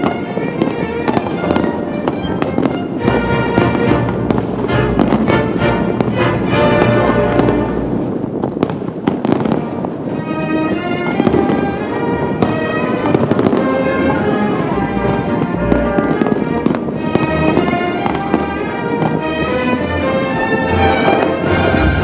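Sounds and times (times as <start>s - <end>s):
music with sustained notes: 0.0s - 8.6s, 9.2s - 22.0s
fireworks cracking and banging: 0.0s - 22.0s.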